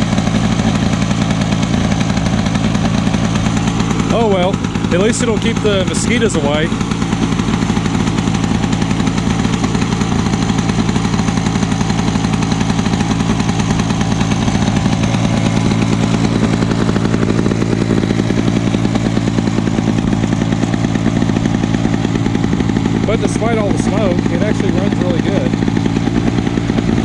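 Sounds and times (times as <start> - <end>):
mower engine running: 0.0 - 27.0.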